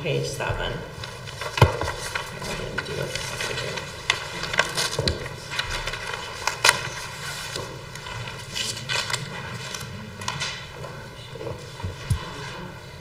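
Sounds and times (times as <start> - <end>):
paper rustling and tapping: 1.0 - 12.8
binder pages turning: 1.0 - 12.9.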